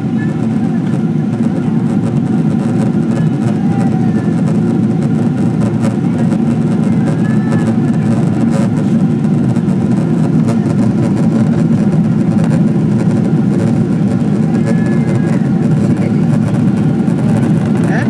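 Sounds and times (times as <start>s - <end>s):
airplane cabin engine and airflow noise: 0.0s - 18.0s.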